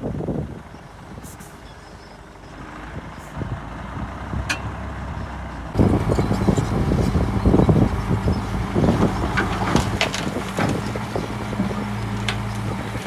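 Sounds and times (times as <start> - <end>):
diesel machinery engine humming: 0.0 - 13.0.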